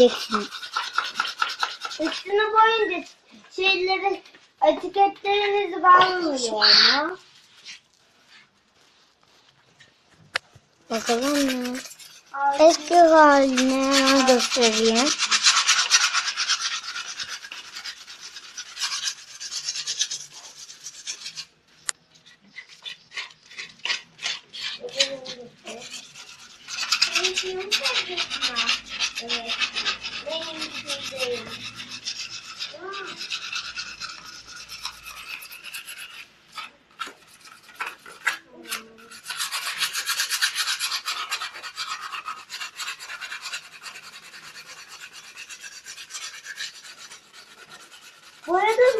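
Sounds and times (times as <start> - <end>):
scraping bicycle frame: 0.0 - 48.9.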